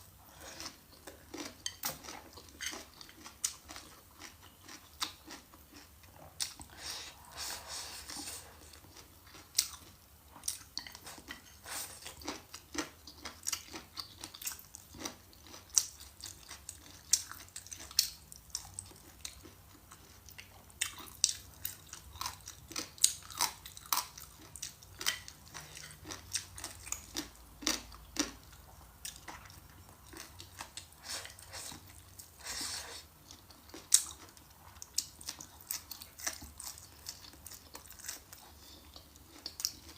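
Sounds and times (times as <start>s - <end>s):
chewing and biting food: 0.6s - 6.8s, 8.1s - 32.3s, 33.2s - 39.9s.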